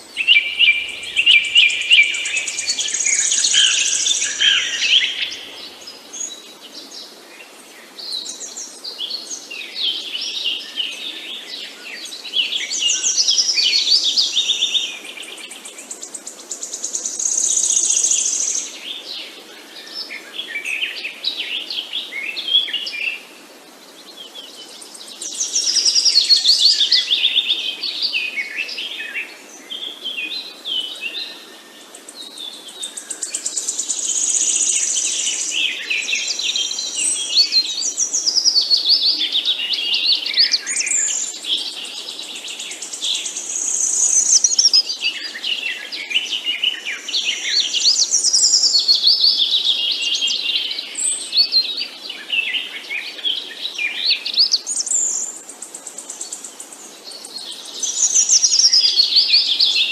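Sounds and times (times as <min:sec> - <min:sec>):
background hiss: 0:00.0 - 0:59.9
songbirds twittering: 0:00.0 - 0:59.9.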